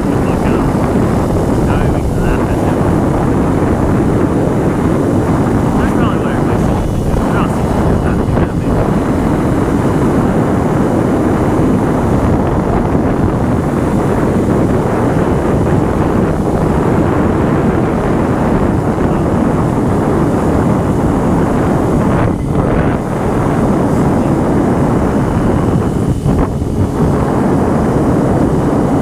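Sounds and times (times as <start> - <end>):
loud wind rush on microphone: 0.0 - 29.0.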